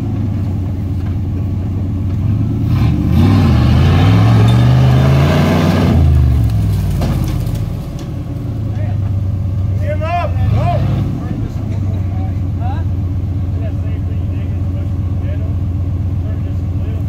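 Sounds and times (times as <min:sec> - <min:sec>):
engine idling and revving: 0:00.0 - 0:17.0.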